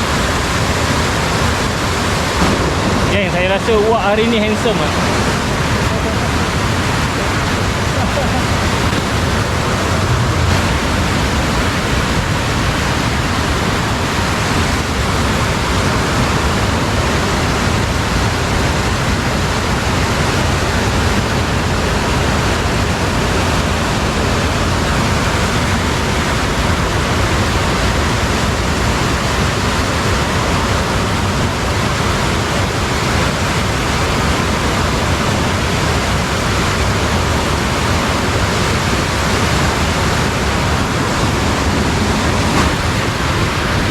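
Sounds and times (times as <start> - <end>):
flowing water: 0.0 - 43.9.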